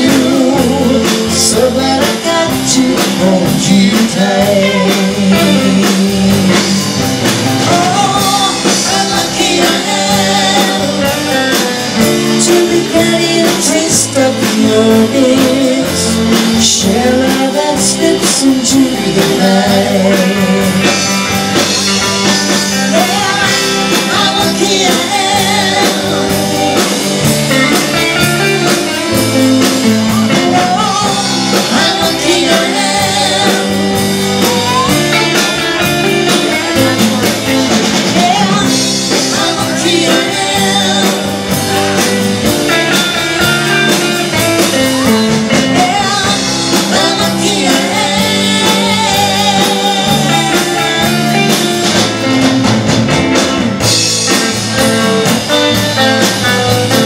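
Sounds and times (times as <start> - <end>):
bending guitar or vocal lines: 0.0 - 57.0
drum kit: 0.0 - 57.0
electric guitars: 0.0 - 57.0.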